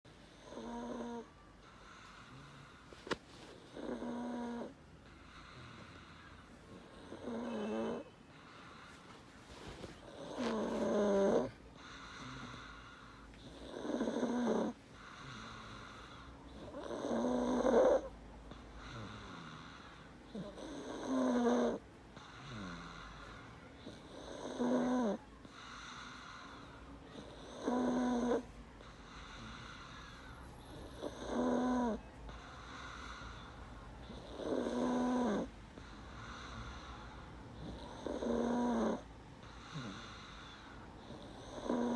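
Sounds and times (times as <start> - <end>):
soft breathing: 0.1 - 41.9
boy snoring: 0.4 - 1.3, 3.6 - 4.8, 5.5 - 8.1, 9.8 - 18.1, 18.8 - 41.9.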